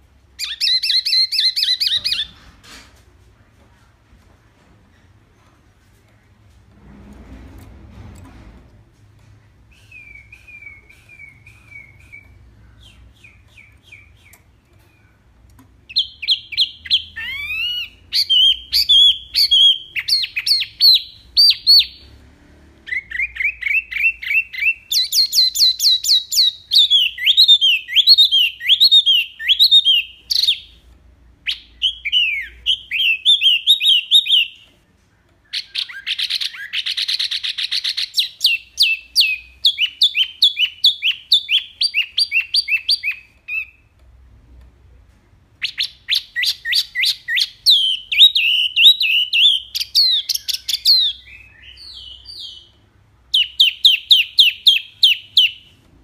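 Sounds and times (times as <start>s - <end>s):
songbird singing chirps and trills: 0.0s - 2.4s, 9.2s - 22.2s, 22.9s - 44.2s, 45.5s - 56.0s.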